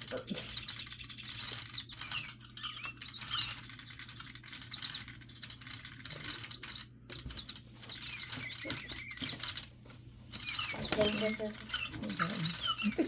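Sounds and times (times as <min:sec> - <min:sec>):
recorded bird song through small speaker: 0:00.0 - 0:13.0.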